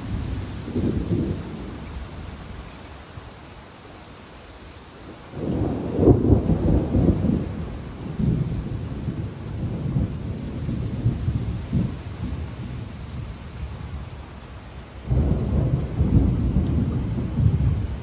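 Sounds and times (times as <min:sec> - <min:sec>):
thunder rumbling: 0:00.0 - 0:02.8, 0:05.1 - 0:14.4, 0:15.0 - 0:18.0
steady rain hissing: 0:00.0 - 0:18.0.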